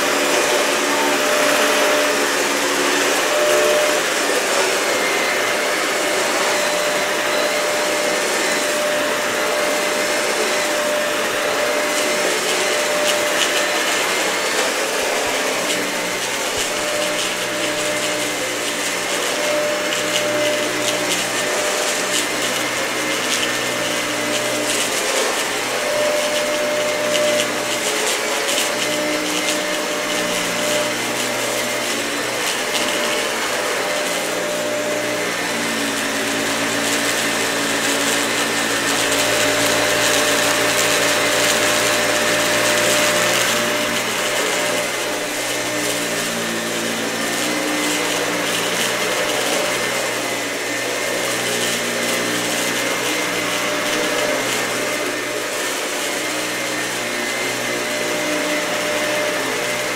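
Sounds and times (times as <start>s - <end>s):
grit crackling in vacuum: 0.0s - 59.9s
vacuum cleaner motor humming: 0.0s - 59.9s.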